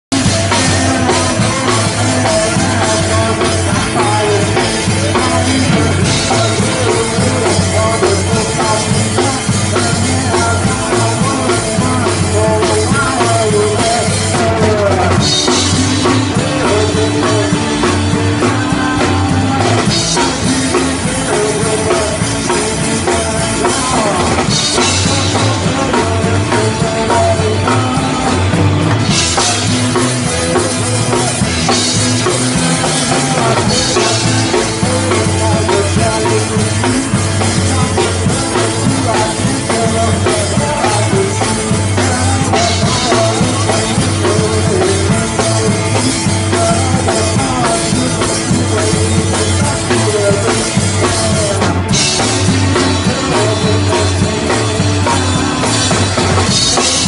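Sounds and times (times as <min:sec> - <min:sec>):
rock band playing live: 0:00.0 - 0:57.0
bass drum and snare beat: 0:00.1 - 0:57.0.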